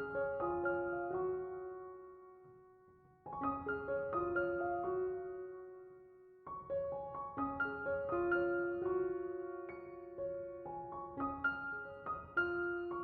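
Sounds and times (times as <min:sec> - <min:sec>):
soft solo piano music: 0:00.0 - 0:13.0.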